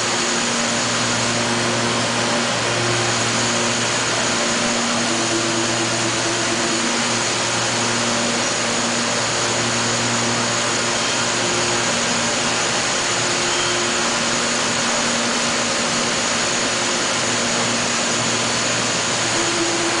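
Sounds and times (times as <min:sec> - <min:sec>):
machine humming tones: 0:00.0 - 0:20.0
machining center whirring hiss: 0:00.0 - 0:20.0.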